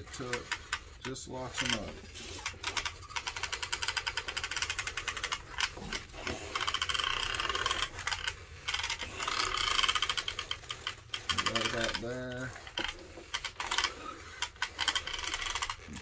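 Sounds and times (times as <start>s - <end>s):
rapid mechanical ratcheting clicks: 0.0s - 16.0s.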